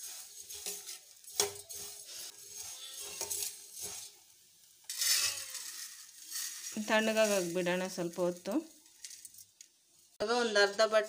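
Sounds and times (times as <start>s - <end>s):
spoon stirring and scraping in pan: 0.0s - 10.1s.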